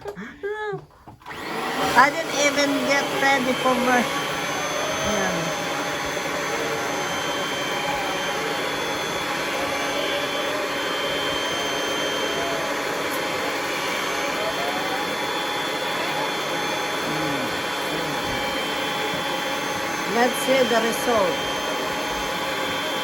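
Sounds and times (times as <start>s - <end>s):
vacuum cleaner running: 1.1s - 23.0s.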